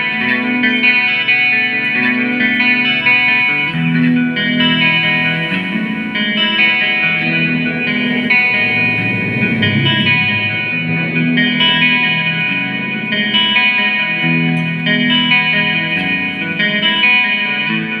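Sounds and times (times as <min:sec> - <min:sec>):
guitar chords: 0:00.0 - 0:18.0.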